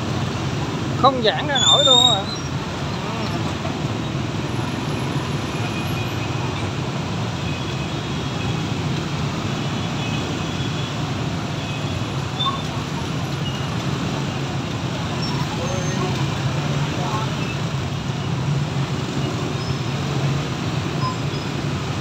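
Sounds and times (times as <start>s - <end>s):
car engines: 0.0s - 22.0s
motorbike and scooter engines: 0.0s - 22.0s.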